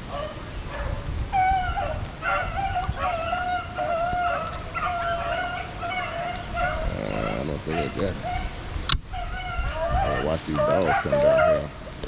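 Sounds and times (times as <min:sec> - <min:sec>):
dogs baying: 0:00.1 - 0:11.8.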